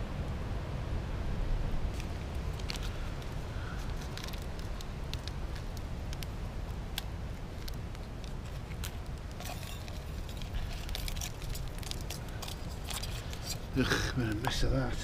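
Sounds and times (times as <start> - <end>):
wind rumbling on microphone: 0.0 - 13.8
campfire crackling: 1.6 - 15.0.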